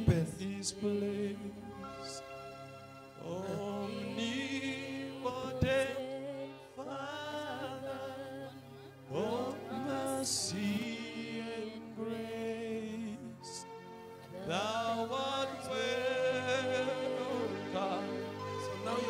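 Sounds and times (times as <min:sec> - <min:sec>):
man singing through microphone: 0:00.0 - 0:02.2, 0:03.2 - 0:08.5, 0:09.1 - 0:13.7, 0:14.4 - 0:19.0.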